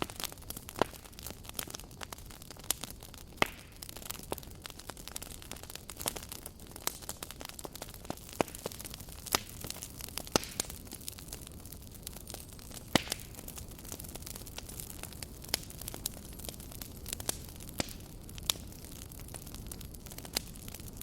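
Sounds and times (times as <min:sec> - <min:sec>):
campfire crackling: 0:00.0 - 0:21.0
flames hissing: 0:00.0 - 0:21.0.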